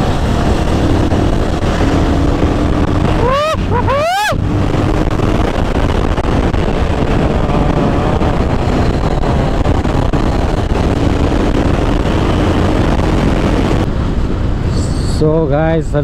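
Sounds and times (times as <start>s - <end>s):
motorcycle engine drone: 0.0s - 16.0s
wind buffeting microphone: 0.0s - 16.0s.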